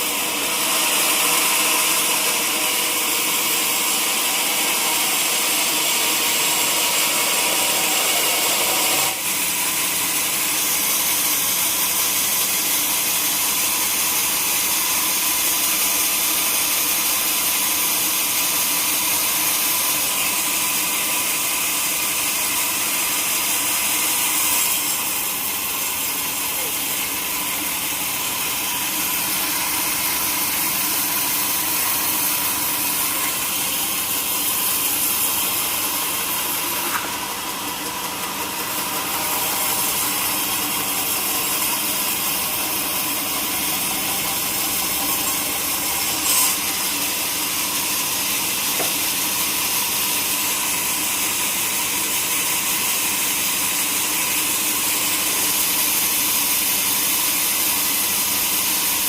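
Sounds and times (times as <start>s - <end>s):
saw cutting log: 0.0s - 59.0s.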